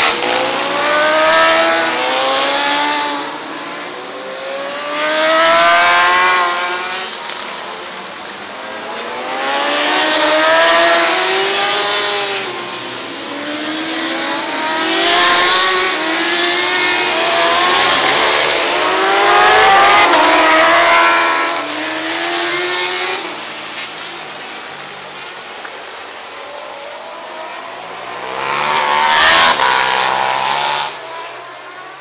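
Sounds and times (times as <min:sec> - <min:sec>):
race motorcycles revving past: 0:00.0 - 0:07.6, 0:08.6 - 0:23.6, 0:27.0 - 0:32.0.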